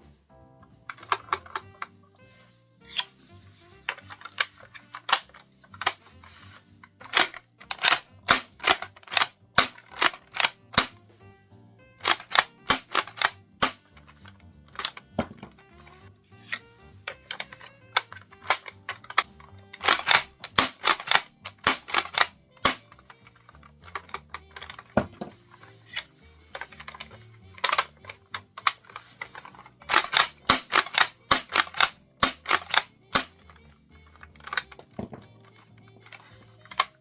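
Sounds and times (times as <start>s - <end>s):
quiet background music: 0.0s - 37.0s
toy shotgun mechanism clicking: 0.9s - 2.0s, 2.8s - 11.0s, 12.0s - 37.0s.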